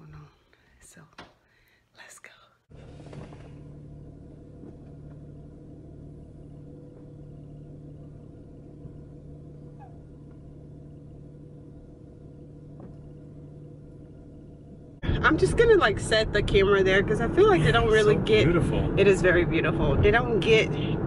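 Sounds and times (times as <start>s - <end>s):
car engine idling: 2.7s - 21.0s.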